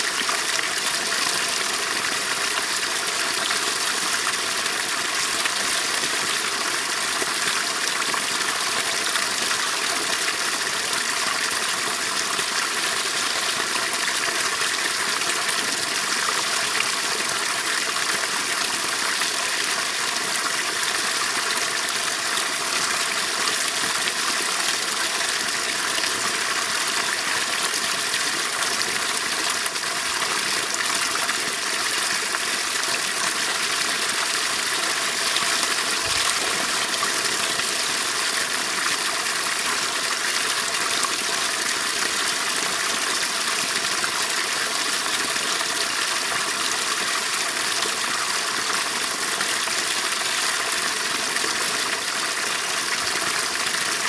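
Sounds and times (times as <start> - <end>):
water stream splashing into pool: 0.0 - 54.0.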